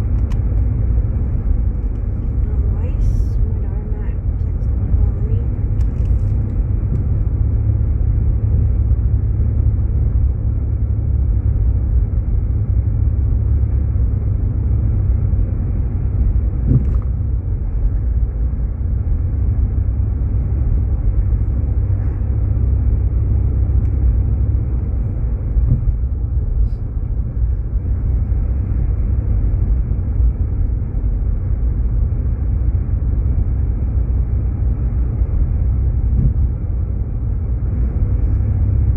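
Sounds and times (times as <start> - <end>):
car cabin road and engine rumble: 0.0 - 38.9.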